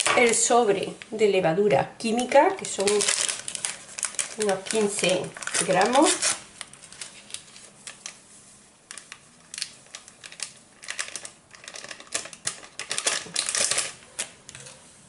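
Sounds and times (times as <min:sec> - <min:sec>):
paper sachet crinkling: 0:02.3 - 0:14.7.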